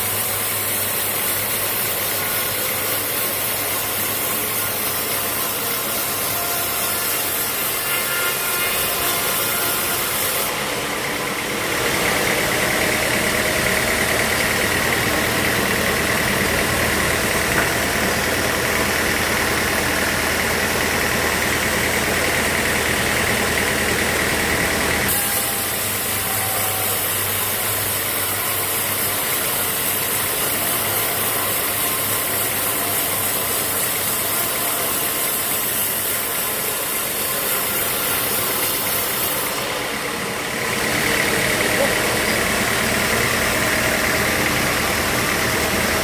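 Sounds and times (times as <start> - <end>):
sawmill machinery drone: 0.0 - 46.0.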